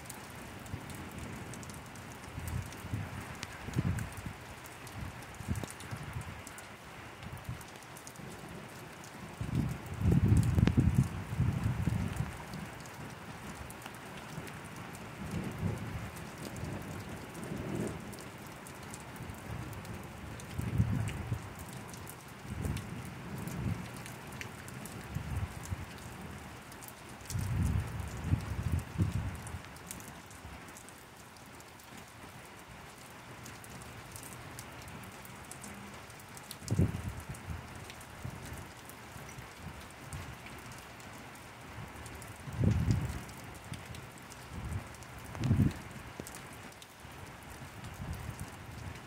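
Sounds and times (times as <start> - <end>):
rain falling on wet ground: 0.0 - 49.0.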